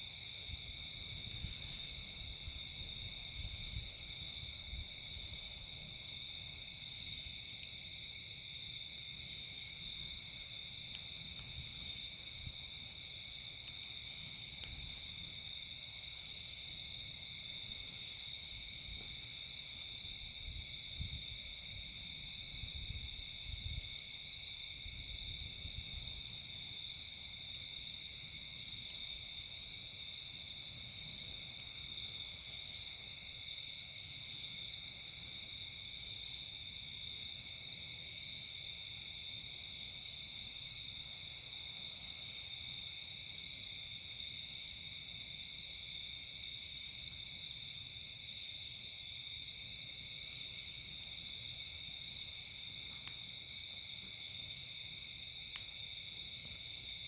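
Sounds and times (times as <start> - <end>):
campfire crackles: 0.0 - 57.0
crickets and night insects trilling: 0.0 - 57.0.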